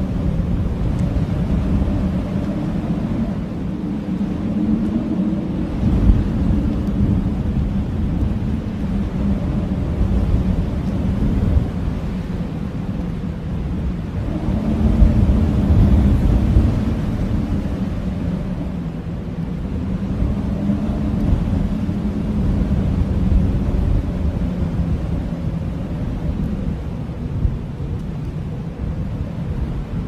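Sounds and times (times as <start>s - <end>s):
blizzard wind howling: 0.0s - 30.0s.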